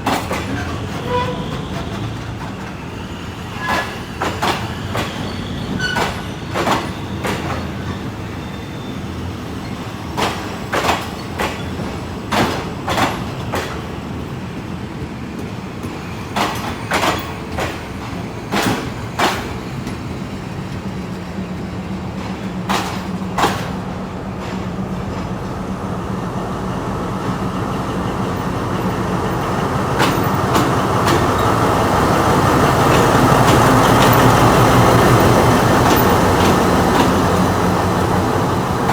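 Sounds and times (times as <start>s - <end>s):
train wheels clacking over rail joints: 0.0s - 25.6s, 27.2s - 38.9s.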